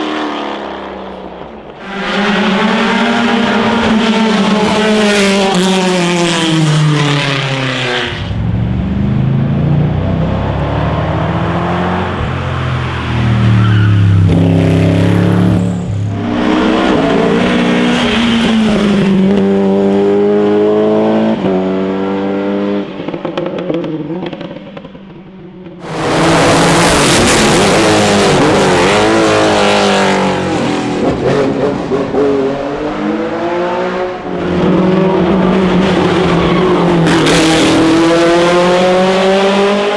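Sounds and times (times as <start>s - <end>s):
racing car engines at full throttle: 0.0s - 39.9s.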